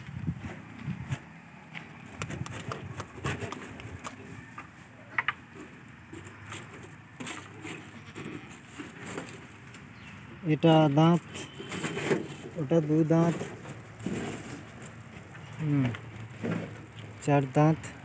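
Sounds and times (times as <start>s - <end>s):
goat chewing dry fodder: 0.5s - 10.3s, 11.3s - 18.0s.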